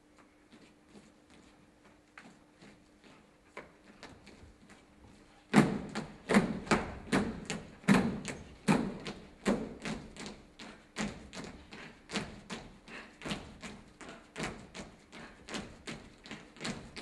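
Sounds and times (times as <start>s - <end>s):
feet stamping on wooden stage: 0.2s - 17.0s.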